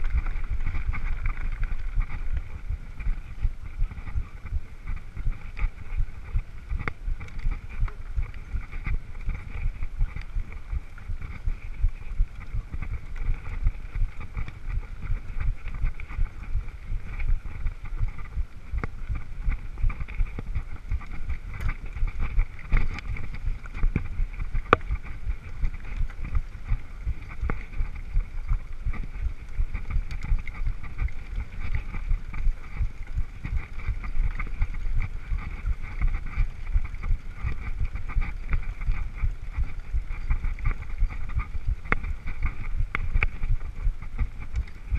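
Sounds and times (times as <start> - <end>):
mountain bike rattle and tyre rumble: 0.0 - 44.9
wind buffeting microphone: 0.0 - 44.9.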